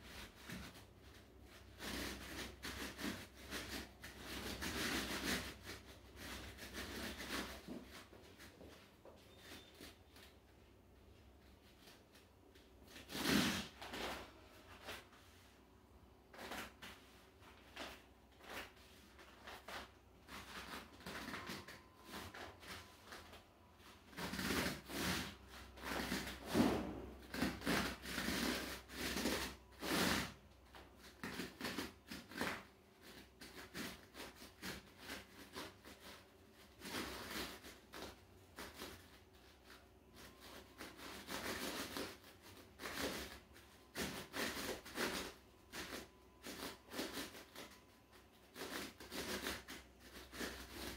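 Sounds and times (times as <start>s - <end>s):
bare feet rubbing on rubber disc: 0.0s - 50.9s.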